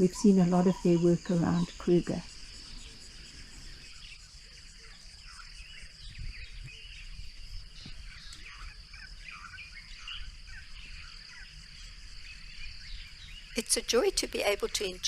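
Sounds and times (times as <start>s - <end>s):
birds chirping: 0.0s - 15.0s
high-pitched insect drone: 0.0s - 15.0s.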